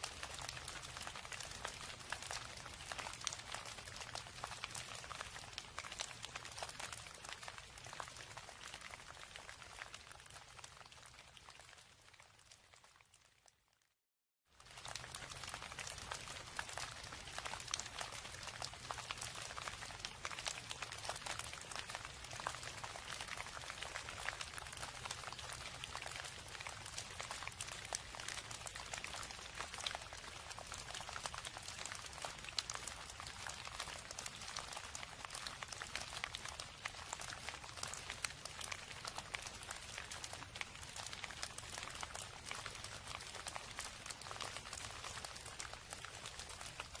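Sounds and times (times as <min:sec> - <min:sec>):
steady rain patter: 0:00.0 - 0:13.3, 0:14.5 - 0:47.0.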